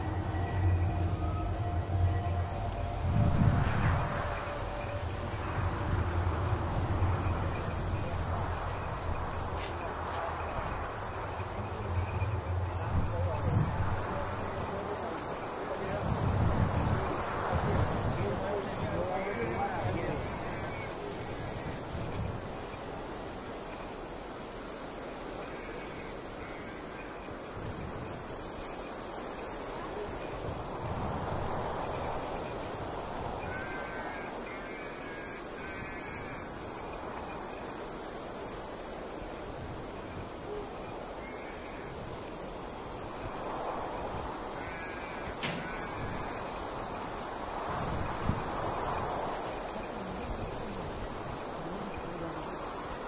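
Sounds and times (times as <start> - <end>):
crickets chirring: 0.0 - 53.0.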